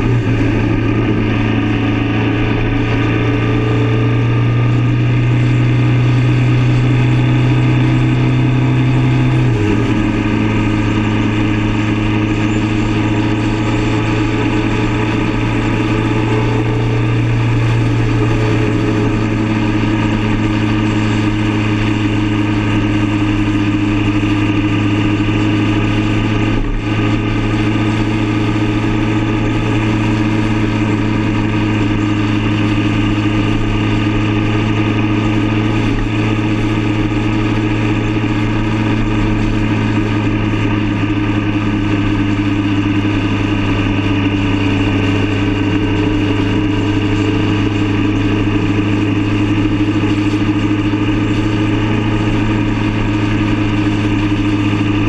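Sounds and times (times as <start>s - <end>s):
motorcycle engine droning: 0.0s - 55.0s
wind and road noise: 0.0s - 55.0s.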